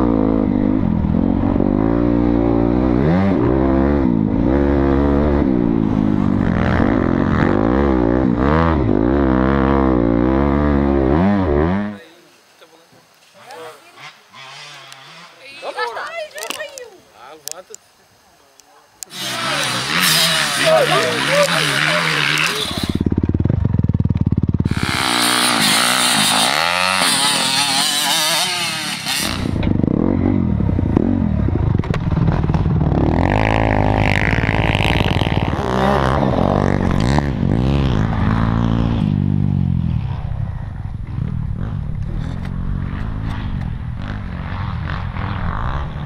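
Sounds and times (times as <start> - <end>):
motocross bike engine revving: 0.0 - 12.0, 13.4 - 15.8, 19.1 - 46.0.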